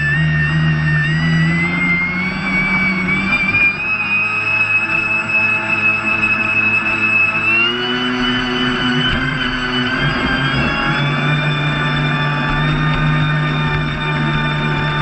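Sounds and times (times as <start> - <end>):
electric motor high whine: 0.0 - 15.0.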